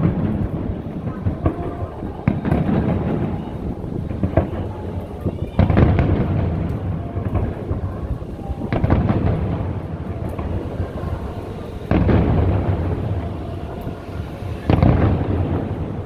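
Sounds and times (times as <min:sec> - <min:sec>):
deep echoing rumble: 0:00.0 - 0:16.0
fireworks shells bursting: 0:00.0 - 0:16.0.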